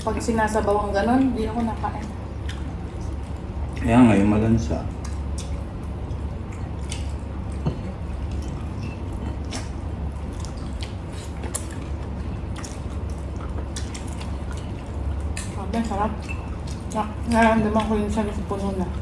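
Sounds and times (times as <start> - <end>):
low hum: 0.0 - 19.0
wet chewing and smacking: 0.2 - 19.0.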